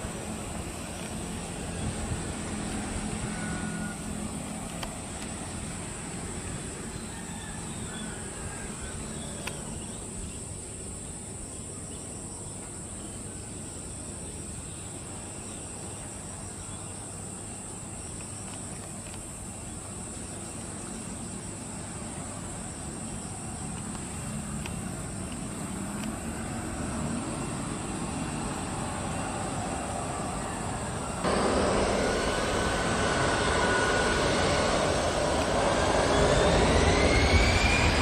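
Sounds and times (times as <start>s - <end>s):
distant jet engines idling: 0.0s - 11.4s, 17.3s - 38.0s
insects chirping: 0.0s - 38.0s.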